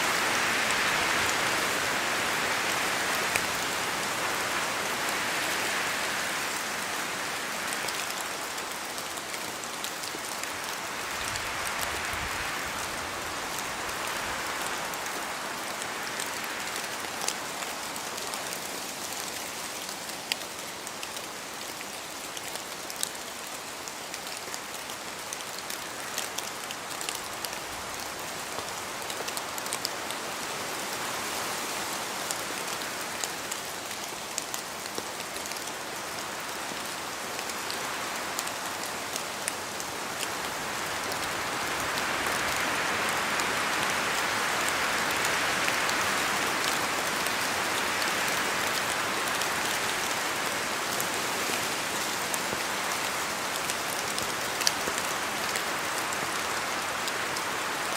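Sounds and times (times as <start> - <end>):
rain falling in forest: 0.0 - 57.9.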